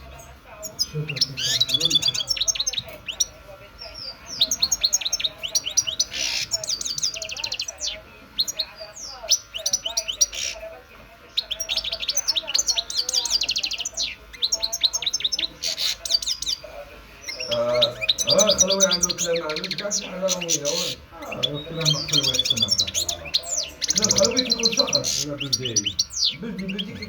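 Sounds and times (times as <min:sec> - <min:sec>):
bird twittering and trilling: 0:00.0 - 0:27.0.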